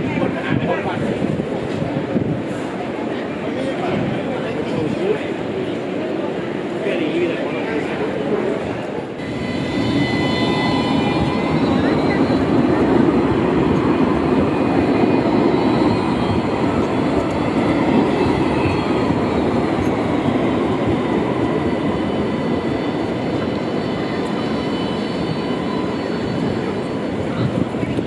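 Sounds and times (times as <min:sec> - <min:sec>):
tram wheels rumbling on rail: 0:00.0 - 0:28.0.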